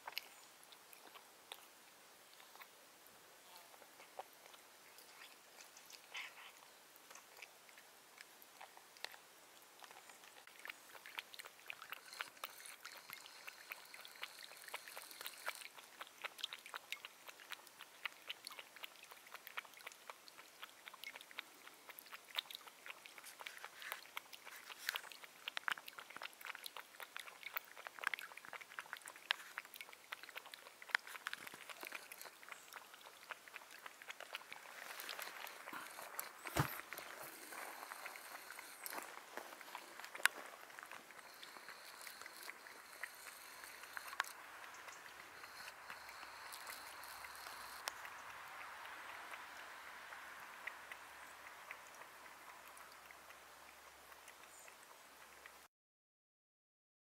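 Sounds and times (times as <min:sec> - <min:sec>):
cat lapping milk: 0:00.0 - 0:55.7
cat crunching dry kibble: 0:03.8 - 0:49.7.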